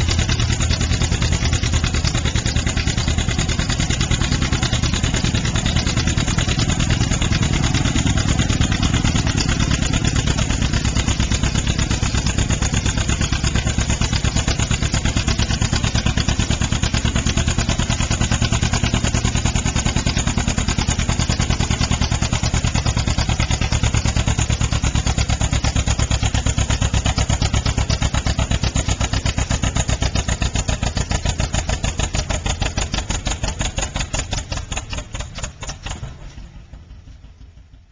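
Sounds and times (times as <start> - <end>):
tractor engine under heavy load: 0.0 - 37.9.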